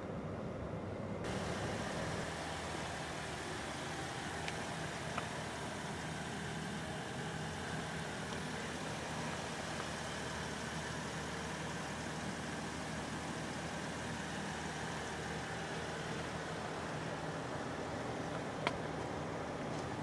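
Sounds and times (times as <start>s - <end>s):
car engine idling: 1.1s - 20.0s
constant hiss: 1.2s - 20.0s.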